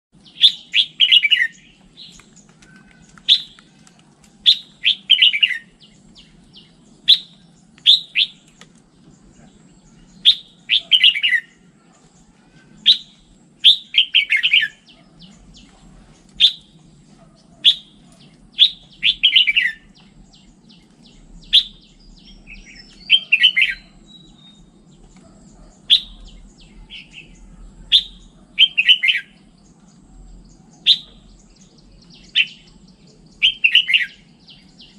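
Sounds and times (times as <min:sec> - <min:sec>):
bird singing chirpy phrases: 0:00.2 - 0:34.9.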